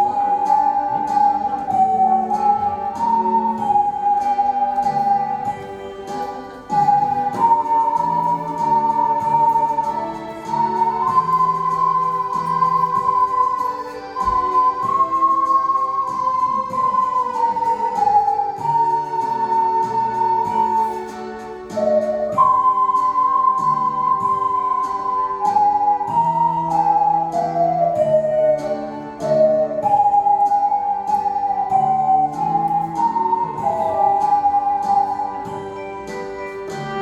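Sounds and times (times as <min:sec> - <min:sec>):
lower accompaniment: 0:00.0 - 0:37.0
ocarina ensemble melody: 0:00.0 - 0:37.0.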